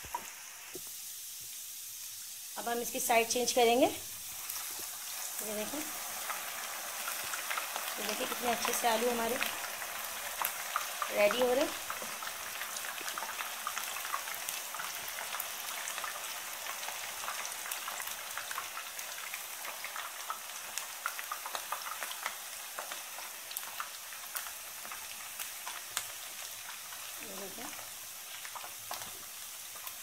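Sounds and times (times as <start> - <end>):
potatoes sizzling in hot oil: 0.0 - 30.0.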